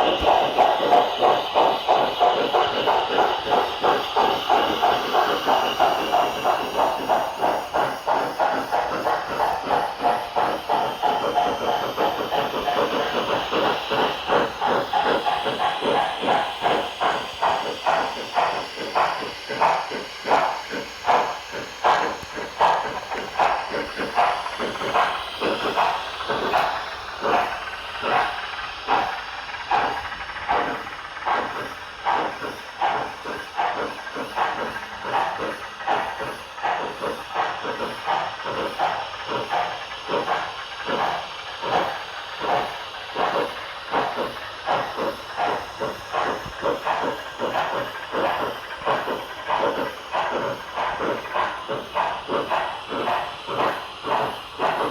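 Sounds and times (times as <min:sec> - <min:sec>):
model train steam chuffs: 0:00.0 - 0:54.9.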